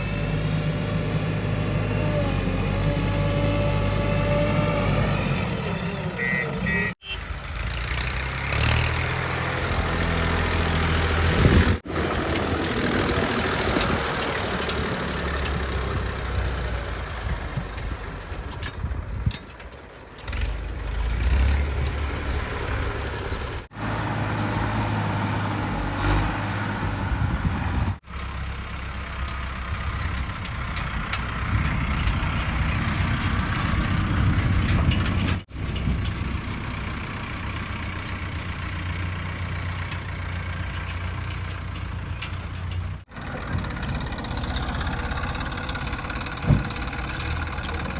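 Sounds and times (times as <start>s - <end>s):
diesel engine working: 0.0s - 19.2s, 20.3s - 47.9s.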